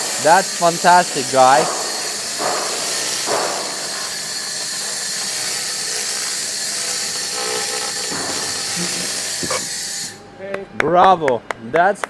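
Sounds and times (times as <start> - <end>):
laser welder hissing: 0.0 - 10.3.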